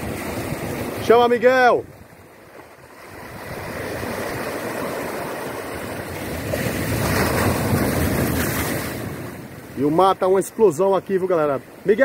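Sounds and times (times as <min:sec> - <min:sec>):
wind noise on microphone: 0:00.0 - 0:09.8
surf breaking over rocks: 0:00.0 - 0:12.0.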